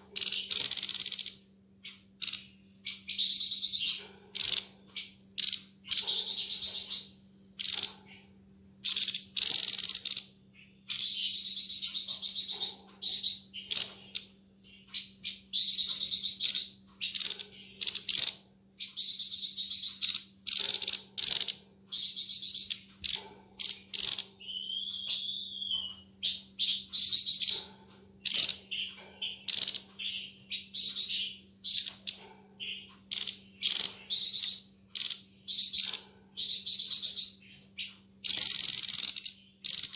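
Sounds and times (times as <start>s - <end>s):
bird rapid sharp trills: 0.0s - 39.9s
faint steady hum: 0.0s - 39.9s.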